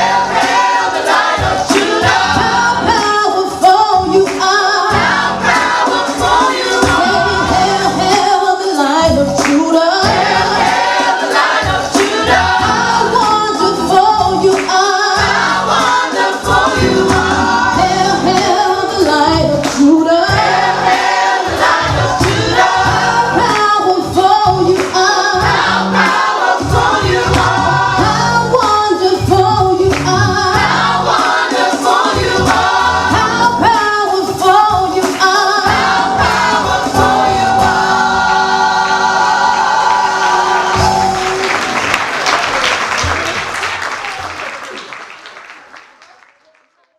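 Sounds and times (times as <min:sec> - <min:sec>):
steady beat: 0:00.0 - 0:43.5
gospel choir singing: 0:00.0 - 0:43.8
bass line: 0:01.4 - 0:04.2, 0:04.8 - 0:10.8, 0:11.6 - 0:15.9, 0:16.5 - 0:31.2, 0:32.1 - 0:35.0, 0:35.6 - 0:43.5.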